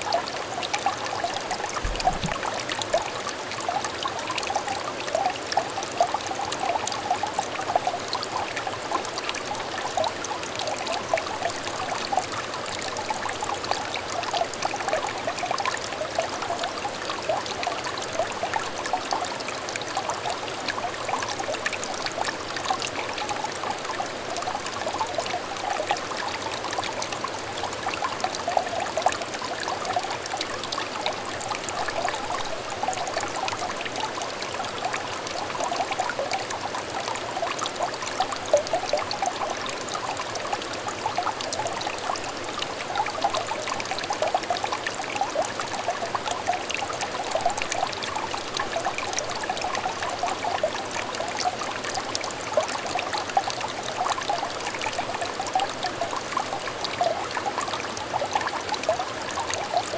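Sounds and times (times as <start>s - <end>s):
small stream bubbling and gurgling: 0.0s - 59.9s.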